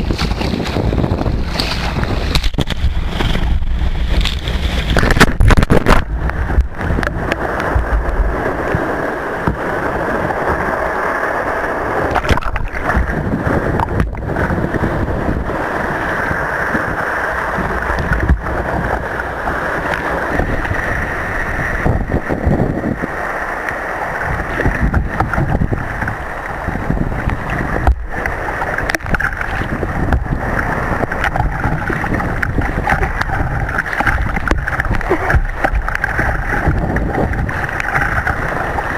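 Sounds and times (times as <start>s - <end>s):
sea water rushing and gurgling: 0.0s - 38.9s
wind buffeting microphone: 0.0s - 38.9s.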